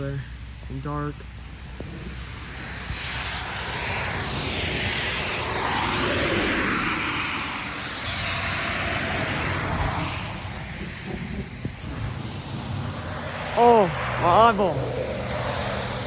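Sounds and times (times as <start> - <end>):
vehicle passing by: 2.3 - 16.0.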